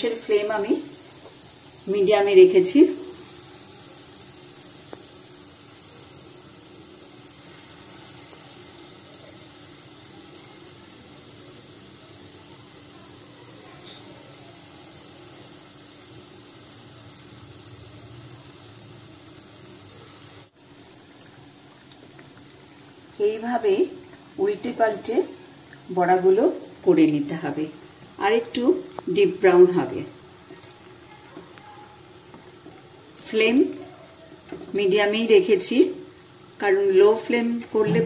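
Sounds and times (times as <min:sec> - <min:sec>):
fritters sizzling in hot oil: 0:00.0 - 0:38.0.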